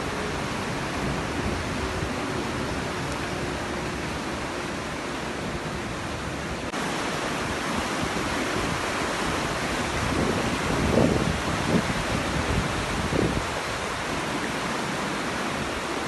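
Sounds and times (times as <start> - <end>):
floodwater rushing: 0.0 - 16.0
wind buffeting microphone: 0.0 - 16.0.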